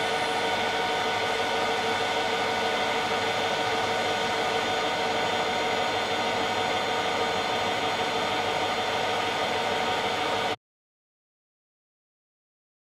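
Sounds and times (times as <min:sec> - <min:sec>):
machine humming: 0:00.0 - 0:10.5.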